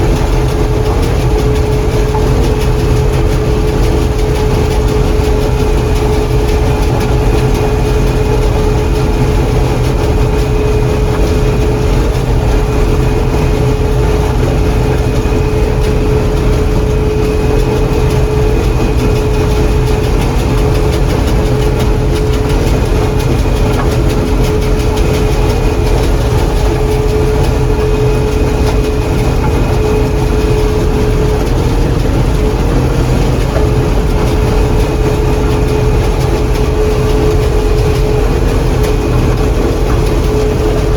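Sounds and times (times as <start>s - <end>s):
combine engine and machinery drone: 0.0s - 40.9s
steady whining tone: 0.0s - 40.9s.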